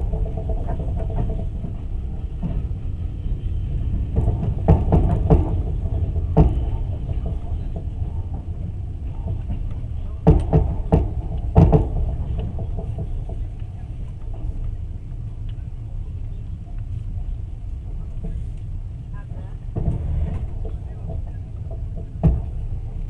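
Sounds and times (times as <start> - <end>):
train rumble inside carriage: 0.0 - 23.0
wheels clacking over rail joints: 0.0 - 23.0.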